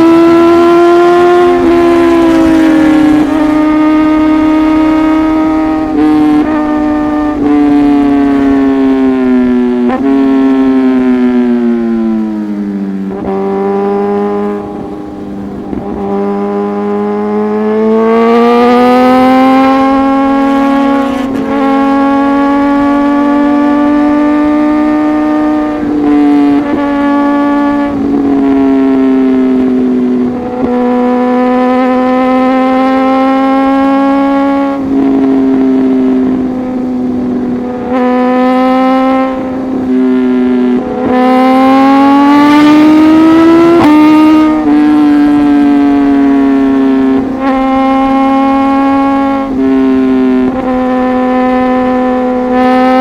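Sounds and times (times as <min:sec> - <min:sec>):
motorcycle engine at speed: 0:00.0 - 0:53.0.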